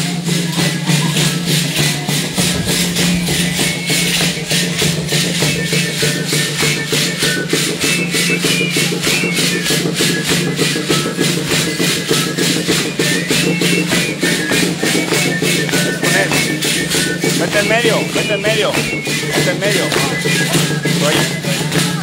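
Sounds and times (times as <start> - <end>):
drum: 0.0 - 22.0
rattle sticks shaken in rhythm: 0.0 - 22.0
pipe playing high notes: 0.8 - 22.0.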